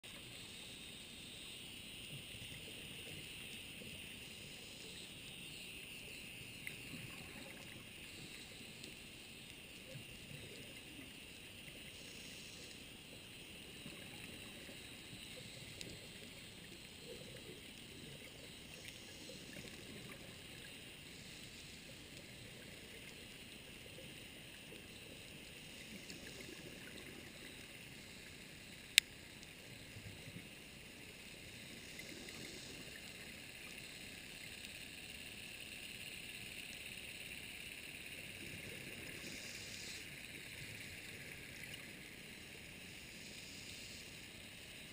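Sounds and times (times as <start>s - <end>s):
underwater hiss: 6.6s - 44.9s.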